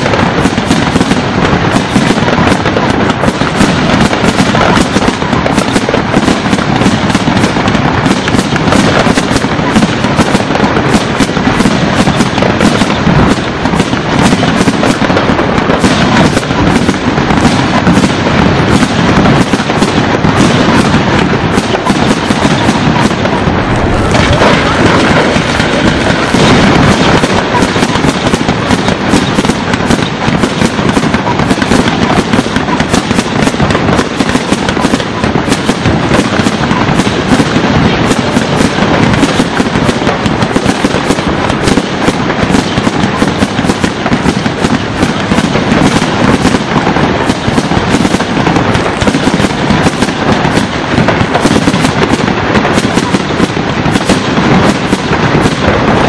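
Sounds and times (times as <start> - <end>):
firework fountain crackling: 0.0 - 56.0.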